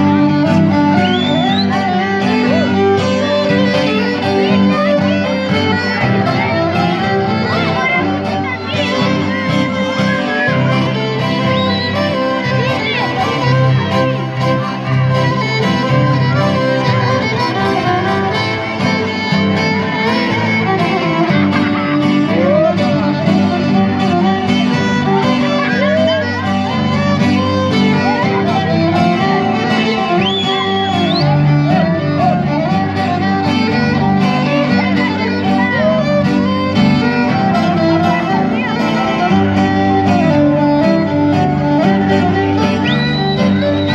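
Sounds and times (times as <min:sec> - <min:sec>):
live band playing folk dance music: 0:00.0 - 0:43.9
violin melody: 0:00.0 - 0:43.9.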